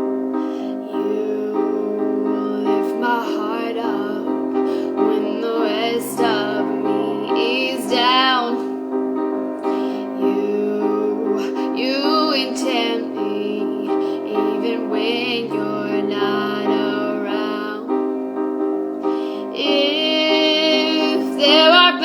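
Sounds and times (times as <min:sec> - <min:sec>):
held keyboard chords: 0:00.0 - 0:22.0
woman singing wordless phrases: 0:00.8 - 0:08.7, 0:10.0 - 0:18.0, 0:19.5 - 0:22.0.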